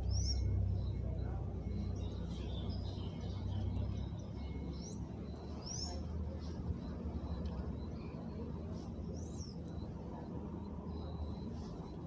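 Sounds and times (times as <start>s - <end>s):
faint twittering: 0.0s - 12.0s
songbird rising chirps: 0.0s - 12.0s
steady low rumble: 0.0s - 12.0s.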